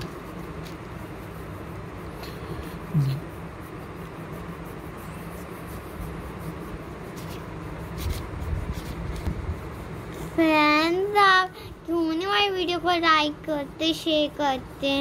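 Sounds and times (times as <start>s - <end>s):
hands rubbing paper on table: 0.0s - 15.0s.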